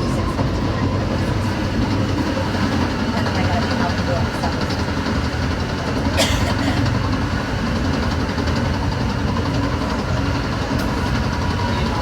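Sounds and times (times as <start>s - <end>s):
train rumbling along: 0.0s - 12.0s.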